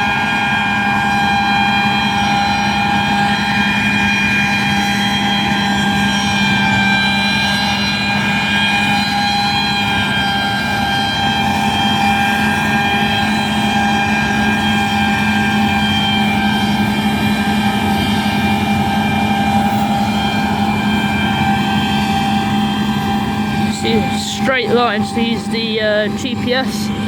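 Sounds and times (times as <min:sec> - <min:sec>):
deep engine hum: 0:00.0 - 0:27.0
high machine whine: 0:00.0 - 0:27.0.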